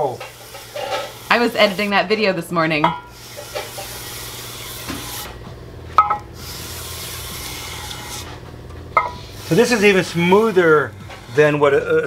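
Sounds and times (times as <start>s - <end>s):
stone scraping on metal: 0.0s - 2.1s, 3.1s - 5.4s, 6.4s - 12.0s.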